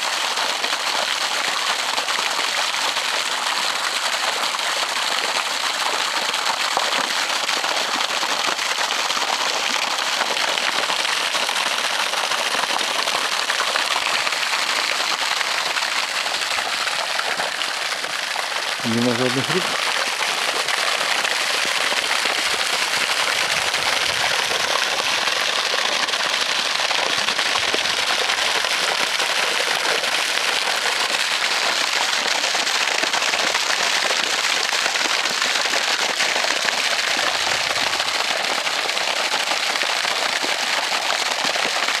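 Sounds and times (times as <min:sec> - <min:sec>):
water jet splashing on water: 0:00.0 - 0:42.0.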